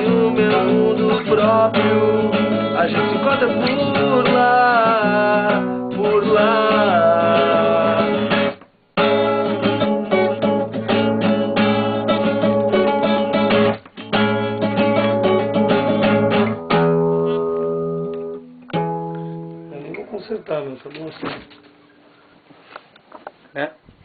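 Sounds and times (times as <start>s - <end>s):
guitars strumming chords: 0.0s - 22.2s.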